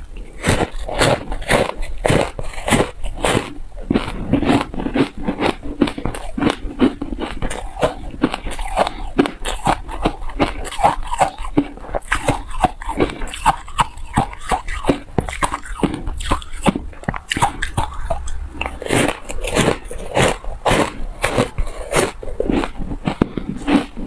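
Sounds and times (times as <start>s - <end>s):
chewing crunchy ice: 0.0s - 24.0s.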